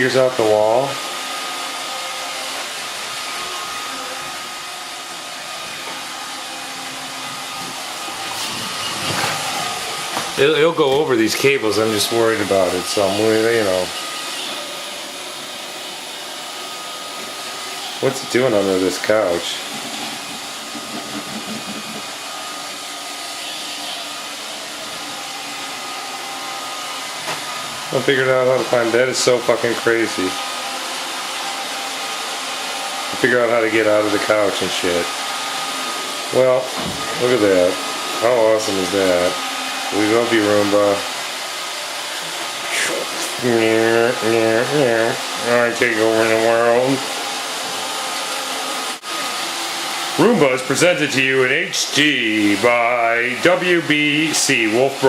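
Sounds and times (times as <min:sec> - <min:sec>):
robot vacuum cleaner whirring: 0:00.0 - 0:55.0.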